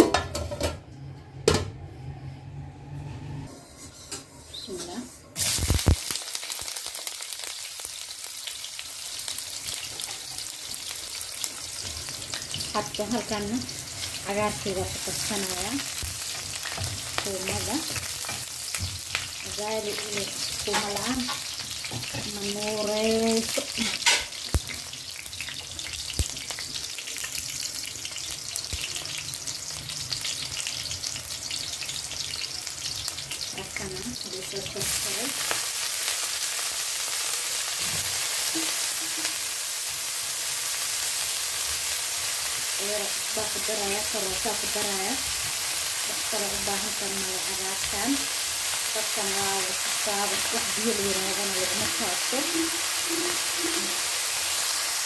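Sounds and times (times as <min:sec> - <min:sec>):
onions sizzling in hot oil: 0:03.5 - 0:55.0.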